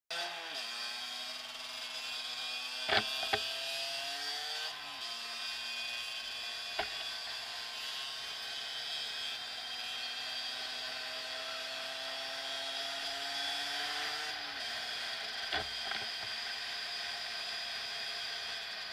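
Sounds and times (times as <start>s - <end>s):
motorcycle engine: 2.1s - 18.9s.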